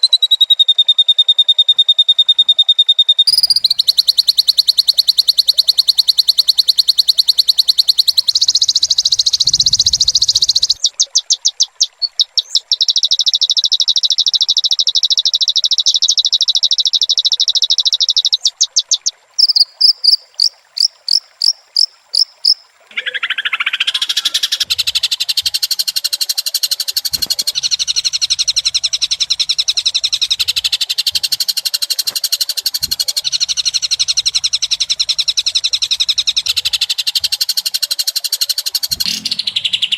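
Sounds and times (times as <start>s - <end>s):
fast buzzing bird trills: 0.0s - 39.9s
dense busy chirping song: 2.9s - 39.9s.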